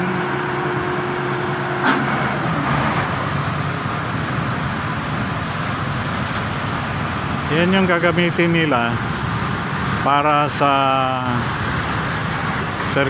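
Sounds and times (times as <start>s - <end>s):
diesel crane engine running: 0.0s - 13.0s
road traffic noise: 0.0s - 13.0s.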